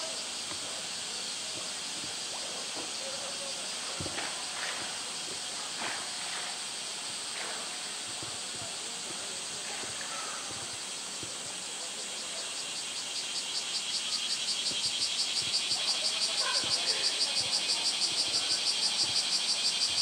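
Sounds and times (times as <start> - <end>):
cicadas high buzz: 0.0 - 20.0
pulsing cicada chorus: 0.0 - 20.0.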